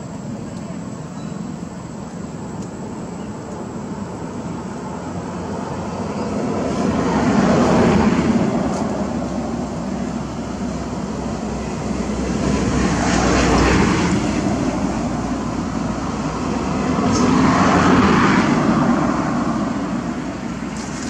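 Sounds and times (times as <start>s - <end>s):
passing engine rumble: 0.0s - 21.0s.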